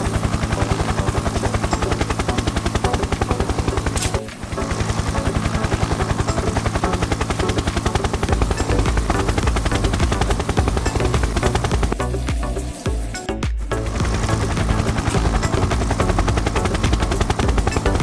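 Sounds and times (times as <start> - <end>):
toy helicopter rotor chopping: 0.0 - 18.0.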